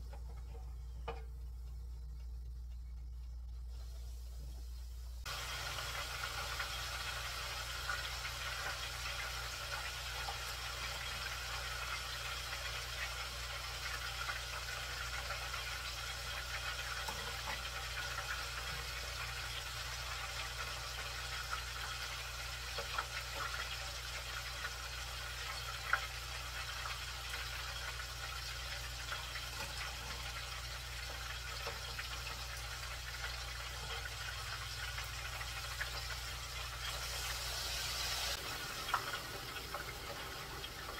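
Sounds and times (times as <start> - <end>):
chicken deep-frying in hot oil: 0.0 - 40.9.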